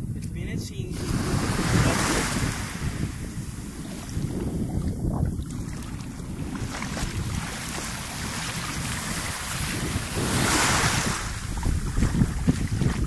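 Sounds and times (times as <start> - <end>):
wind on microphone: 0.0 - 13.0
waves lapping on shore: 0.7 - 13.0.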